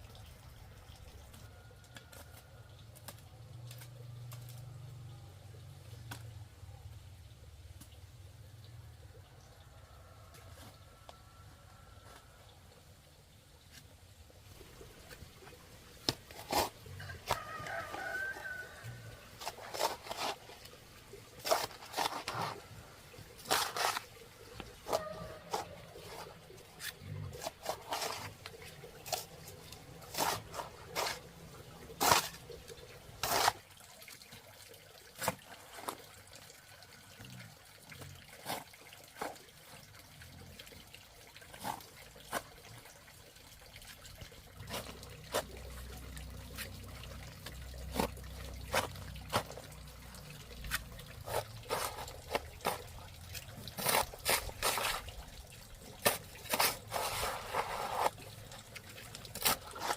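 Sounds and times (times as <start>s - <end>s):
water splashing and dripping: 0.0s - 59.9s.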